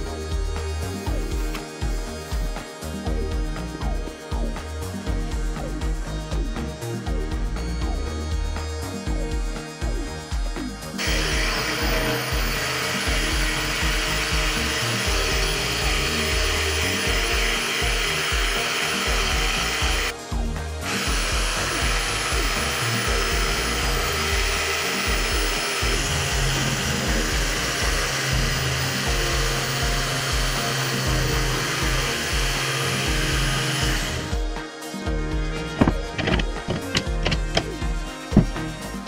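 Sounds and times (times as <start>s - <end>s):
electric jigsaw cutting plywood: 0.0s - 6.2s, 10.0s - 34.6s, 35.7s - 38.6s.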